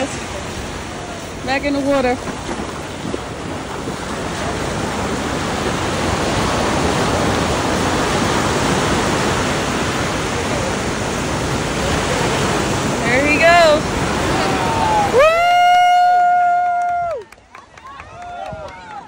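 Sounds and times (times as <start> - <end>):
ocean surf breaking: 0.0 - 17.2
wind on microphone: 0.0 - 17.2.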